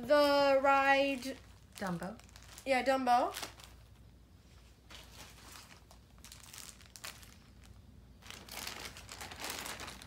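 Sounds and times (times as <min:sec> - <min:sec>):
plastic bag rustling: 0:00.1 - 0:10.0.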